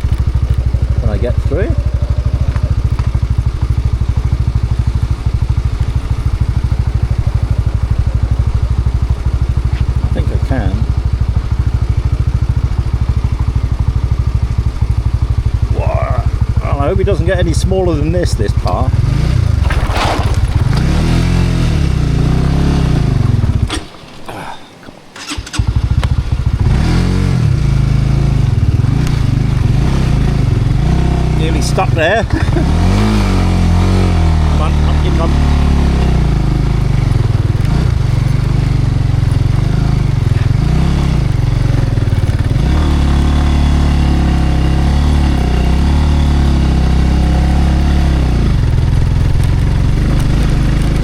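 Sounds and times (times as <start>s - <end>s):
motorbike engine chugging: 0.0s - 19.6s, 20.5s - 51.0s.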